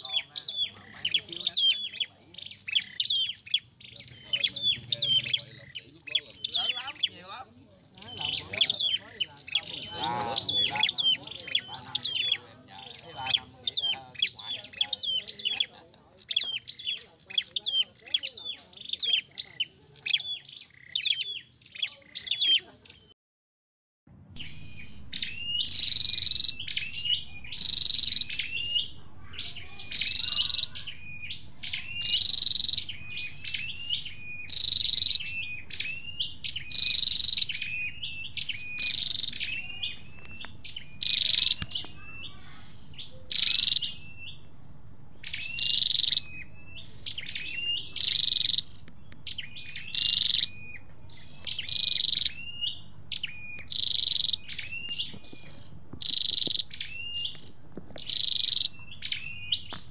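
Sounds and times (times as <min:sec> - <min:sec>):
bird singing high-pitched song: 0:00.0 - 0:23.1, 0:24.3 - 0:59.9.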